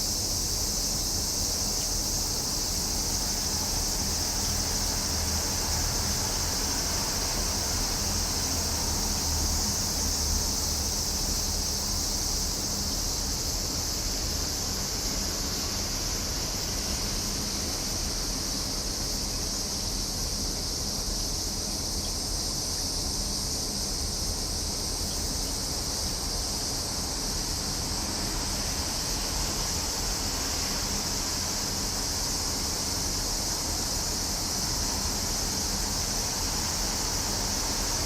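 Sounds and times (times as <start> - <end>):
cicadas droning: 0.0 - 38.0.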